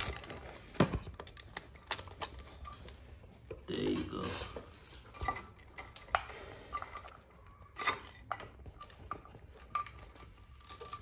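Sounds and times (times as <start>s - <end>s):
metal tools clinking on metal: 0.0s - 11.0s.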